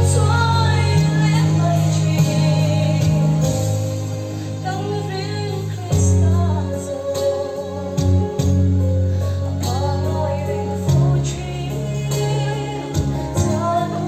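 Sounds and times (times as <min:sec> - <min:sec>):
amplified instrumental accompaniment: 0:00.0 - 0:14.0
woman singing into a microphone: 0:00.0 - 0:14.0.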